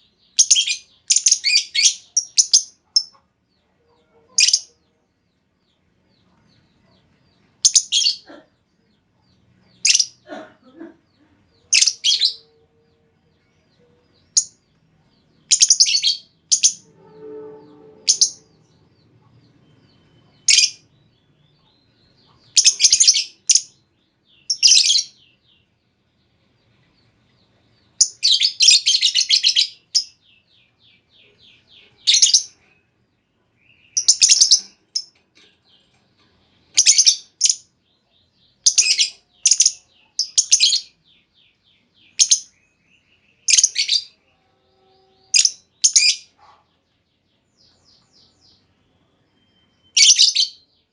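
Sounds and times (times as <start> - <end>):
lovebird chirping: 0.0 - 50.9.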